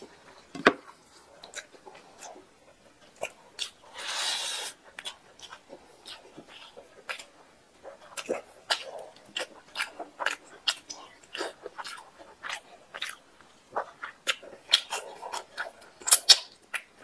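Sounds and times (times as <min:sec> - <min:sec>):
wet chewing and lip-smacking: 0:00.9 - 0:17.0.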